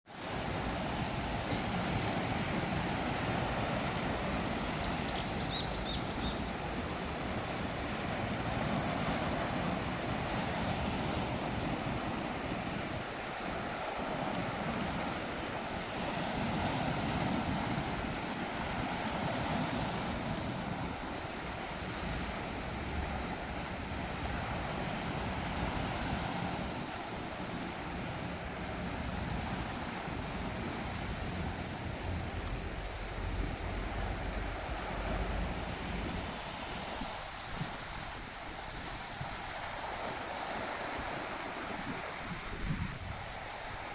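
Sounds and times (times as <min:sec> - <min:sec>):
sea waves rushing: 0:00.1 - 0:43.9
wind buffeting microphone: 0:00.3 - 0:43.9.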